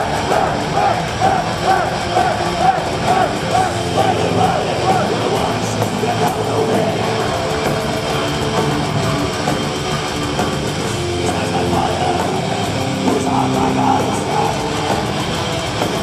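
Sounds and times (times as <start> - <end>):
live metal band playing: 0.0 - 16.0.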